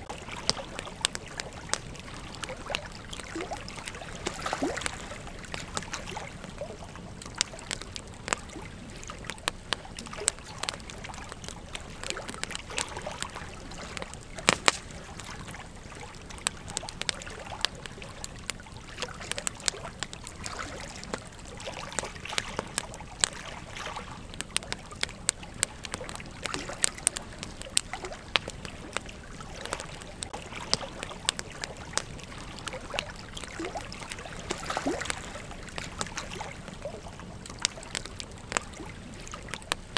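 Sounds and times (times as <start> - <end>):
campfire crackling and popping: 0.0 - 39.9
fire hissing: 0.5 - 39.9.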